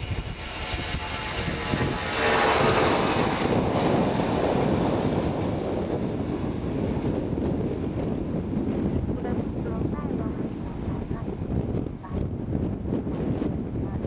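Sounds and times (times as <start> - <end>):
jet airliner roar: 0.0 - 14.0
jet engine whine falling: 0.0 - 14.0.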